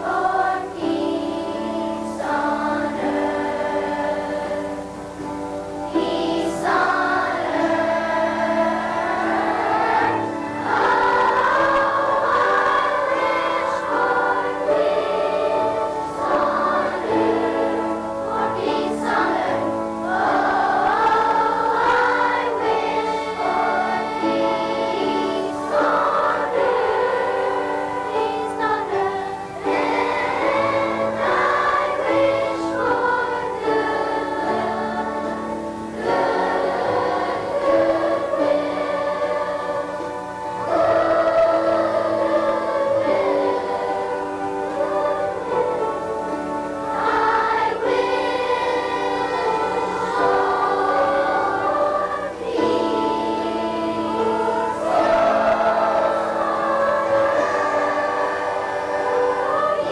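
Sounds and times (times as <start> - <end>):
children's choir singing: 0.0 - 59.9
instrumental accompaniment: 0.0 - 59.9.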